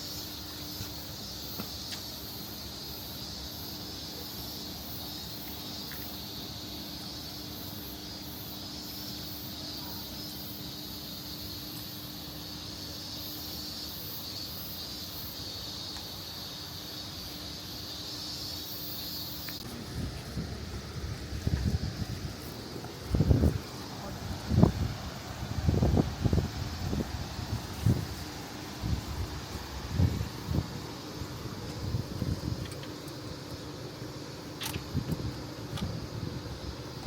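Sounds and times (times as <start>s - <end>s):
high-pitched hiss: 0.0s - 37.0s.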